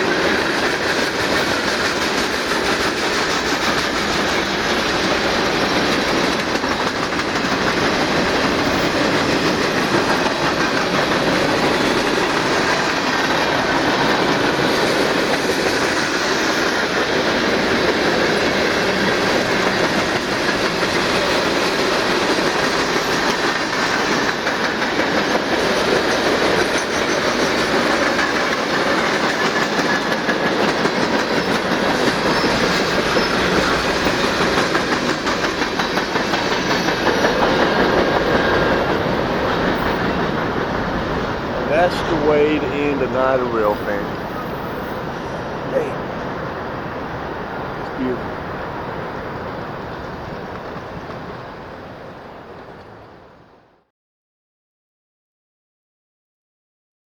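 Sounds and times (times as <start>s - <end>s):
train wheels clattering on rails: 0.0s - 47.4s, 50.0s - 53.1s.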